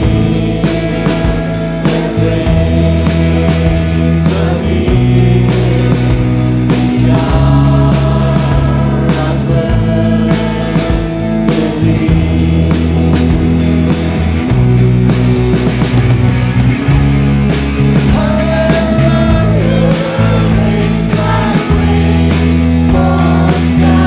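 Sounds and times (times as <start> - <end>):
singers: 0.0 - 14.2, 17.7 - 24.0
bass guitar: 0.0 - 24.0
drum kit with cymbals: 0.0 - 24.0
electric and acoustic guitars: 0.0 - 24.0.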